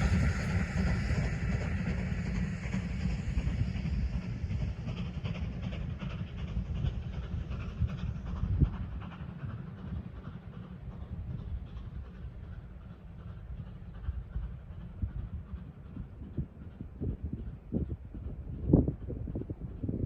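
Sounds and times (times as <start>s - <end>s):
steam train exhaust beats: 0.0s - 20.0s
train wheel clatter: 0.0s - 20.0s.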